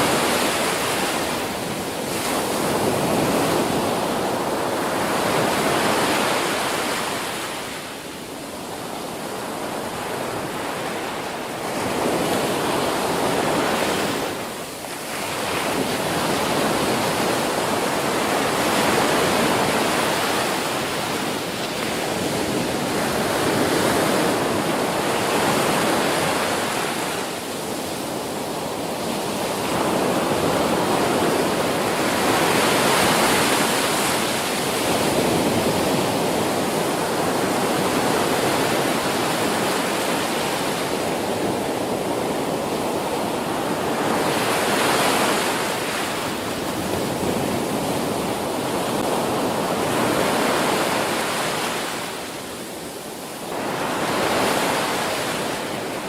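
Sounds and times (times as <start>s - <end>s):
ocean surf breaking: 0.0s - 8.0s, 8.6s - 56.0s.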